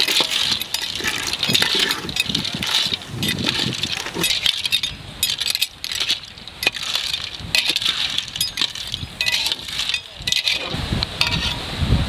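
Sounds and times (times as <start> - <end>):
ladle stirring clams in metal pot: 0.0 - 11.7.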